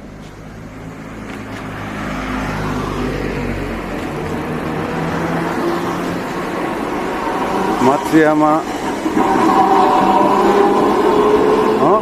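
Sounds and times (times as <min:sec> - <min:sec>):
street traffic passing: 0:00.0 - 0:12.0
streetcar on tracks: 0:00.0 - 0:12.0.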